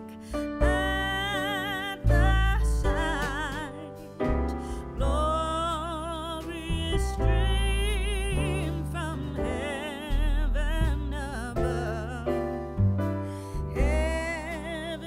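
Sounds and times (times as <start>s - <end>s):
deep bass notes: 0.0s - 15.0s
singer with wide vibrato: 0.3s - 12.6s.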